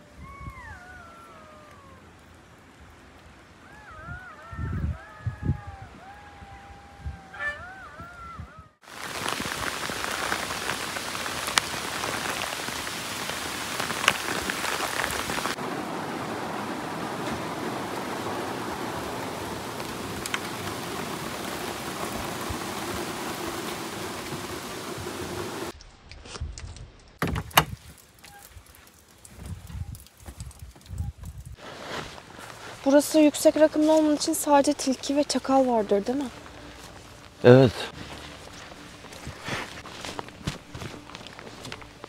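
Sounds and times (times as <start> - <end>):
heavy rain: 0.0 - 8.2, 8.8 - 25.7, 31.6 - 42.0.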